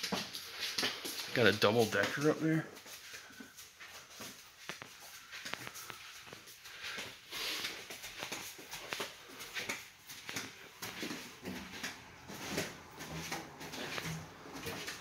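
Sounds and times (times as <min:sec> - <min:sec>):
footsteps on train floor: 0:00.0 - 0:15.0
soft breathing: 0:02.7 - 0:15.0.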